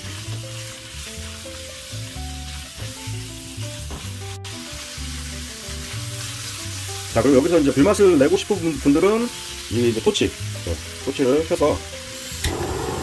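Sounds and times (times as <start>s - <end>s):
background music with bass line: 0.0s - 12.4s
meat sizzling in a wok: 0.0s - 13.0s.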